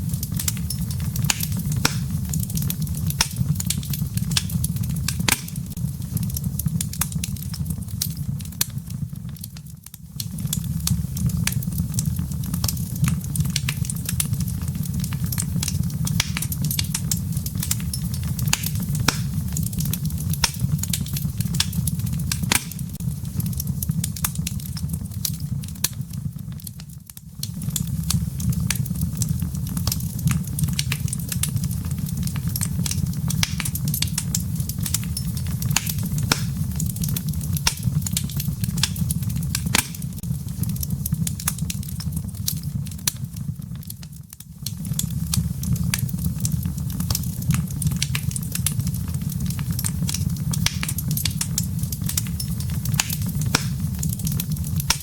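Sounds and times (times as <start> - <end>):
fire low rumble: 0.0 - 55.0
wood fire crackling and popping: 0.0 - 55.0.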